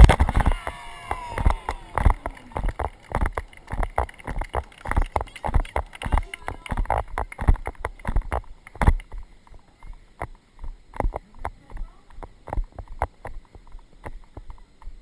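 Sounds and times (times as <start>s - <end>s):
horse hooves thudding: 0.0s - 15.0s.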